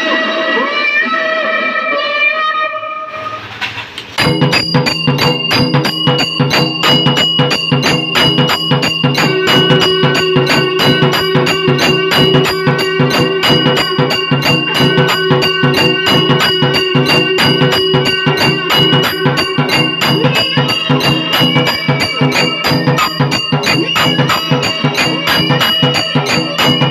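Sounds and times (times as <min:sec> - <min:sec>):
drum beating: 0:04.0 - 0:26.9
cymbals beating: 0:04.1 - 0:26.9
brass bells ringing: 0:04.2 - 0:26.9
steady held tone: 0:04.2 - 0:26.9.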